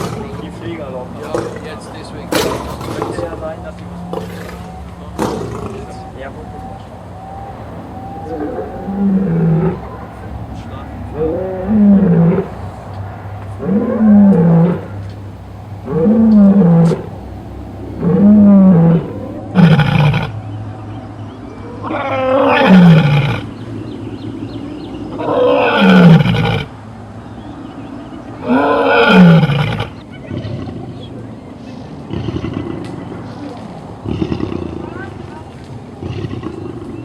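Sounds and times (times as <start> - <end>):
lion roaring: 0.0 - 15.0, 15.8 - 20.4, 21.7 - 23.5, 25.1 - 26.7, 28.4 - 31.1, 32.0 - 37.0.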